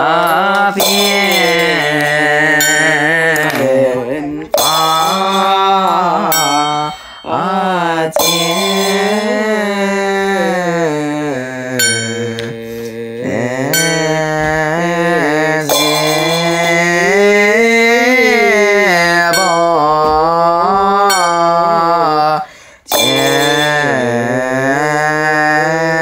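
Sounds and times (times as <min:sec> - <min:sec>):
liturgical chant in long notes: 0:00.0 - 0:26.0.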